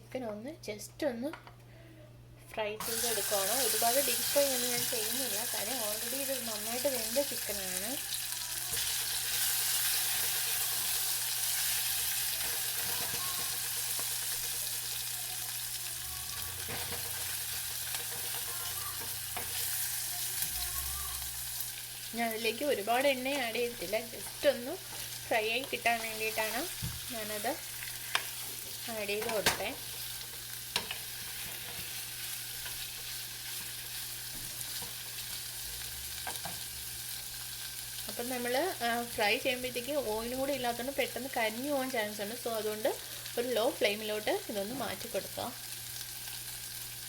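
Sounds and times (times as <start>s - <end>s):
chicken sizzling in a pan: 2.8s - 47.0s.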